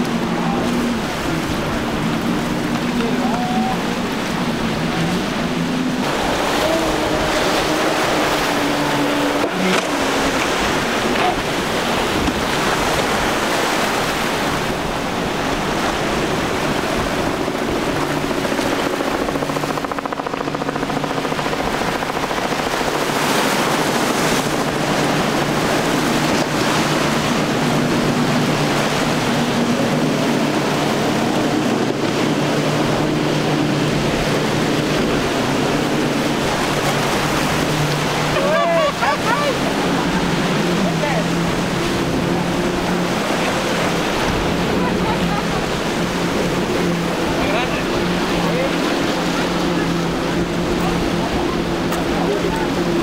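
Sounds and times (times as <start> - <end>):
hull spray and wake water rushing: 0.0 - 53.0
outboard motors droning: 0.0 - 53.0.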